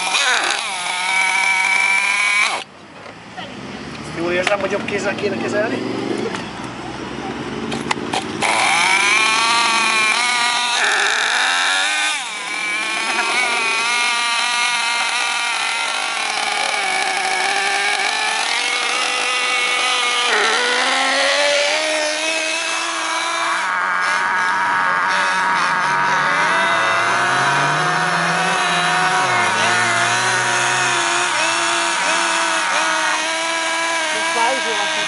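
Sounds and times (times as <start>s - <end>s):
small model engine revving: 0.0s - 2.7s, 7.7s - 35.0s.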